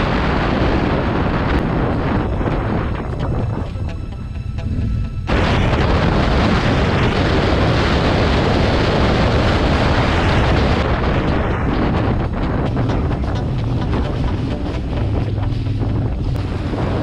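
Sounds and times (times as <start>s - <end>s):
wind buffeting microphone: 0.0s - 17.0s
motorcycle engine rumble: 1.1s - 17.0s.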